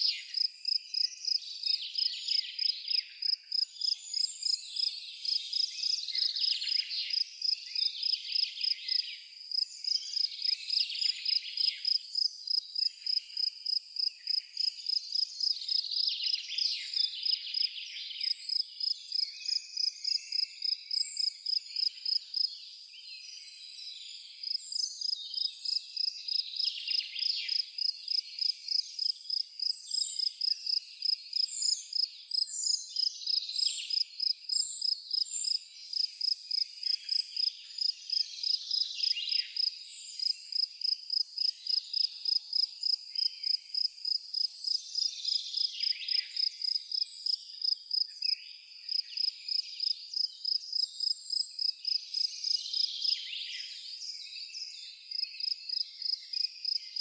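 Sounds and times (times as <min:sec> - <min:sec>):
cricket chirping: 0:00.0 - 0:22.8, 0:23.8 - 0:57.0.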